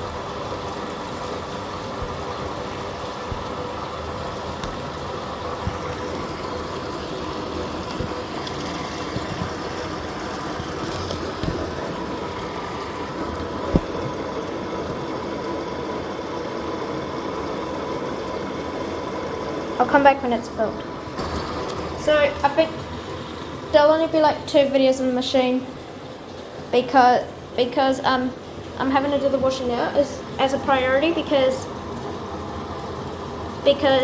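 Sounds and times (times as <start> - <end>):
water rushing into washing machine: 0.0 - 34.0.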